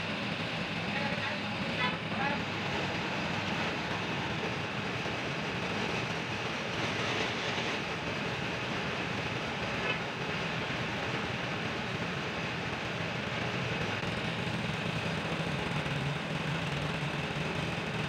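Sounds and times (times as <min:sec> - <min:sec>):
air compressor running: 0:00.0 - 0:18.0.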